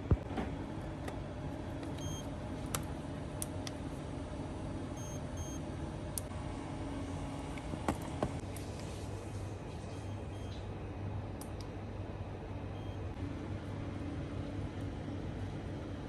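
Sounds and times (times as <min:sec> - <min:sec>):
low workshop hum: 0:00.0 - 0:16.0.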